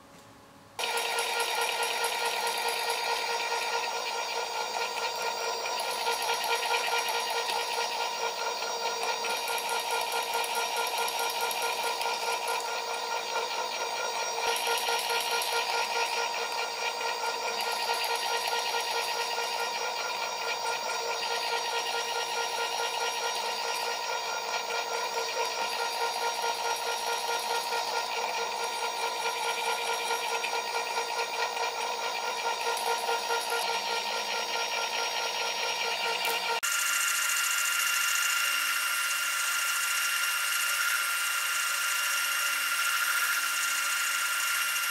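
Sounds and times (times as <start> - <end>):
stepper motor whine: 0.8 - 44.9.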